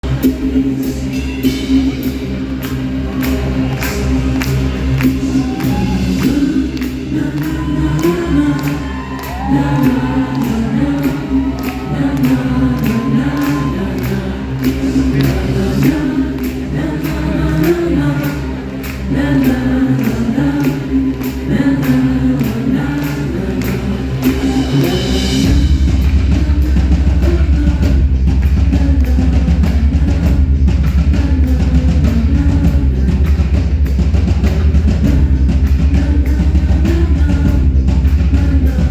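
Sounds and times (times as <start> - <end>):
heavy bass and drums: 0.0 - 38.9
person singing with vibrato: 0.0 - 38.9.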